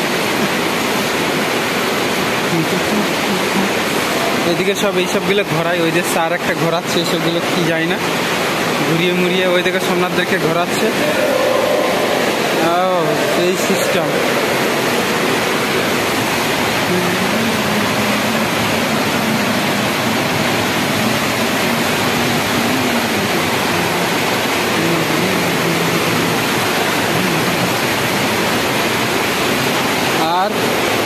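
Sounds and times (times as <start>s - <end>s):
water rushing through channels: 0.0s - 31.0s.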